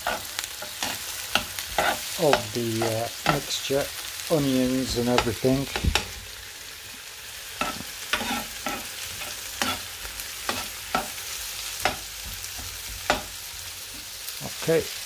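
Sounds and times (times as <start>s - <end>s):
spatula scraping a pan: 0.0s - 6.2s, 7.5s - 14.2s
vegetables sizzling in oil: 0.0s - 15.0s.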